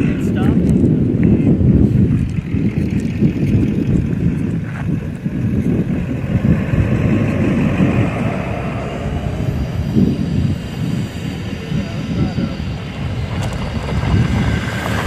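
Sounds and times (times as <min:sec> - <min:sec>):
car driving on dirt trail: 0:00.0 - 0:15.0.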